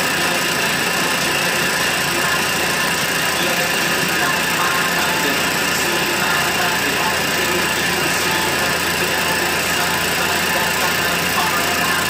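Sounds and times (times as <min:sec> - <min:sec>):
milling machine whine and hiss: 0:00.0 - 0:12.0.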